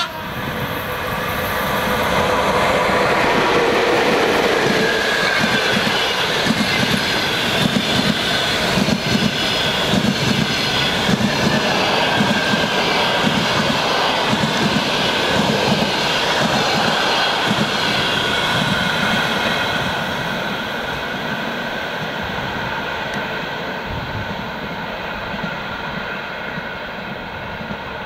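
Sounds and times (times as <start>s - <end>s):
train rolling past on rails: 0.0s - 28.0s.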